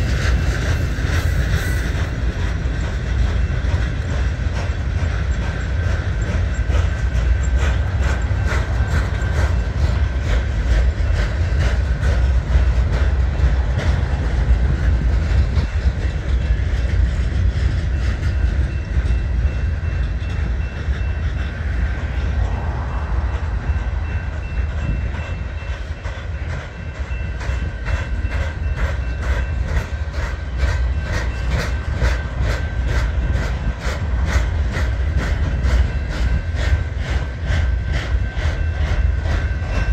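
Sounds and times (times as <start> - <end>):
freight train rumbling: 0.0 - 39.9
wheels clicking over rail joints: 0.0 - 39.9.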